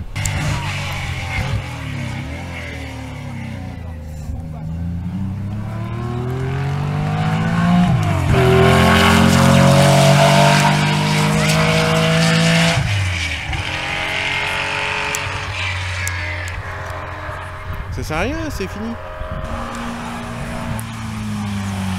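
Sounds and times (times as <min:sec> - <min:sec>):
rally car engine accelerating: 0:00.0 - 0:21.9.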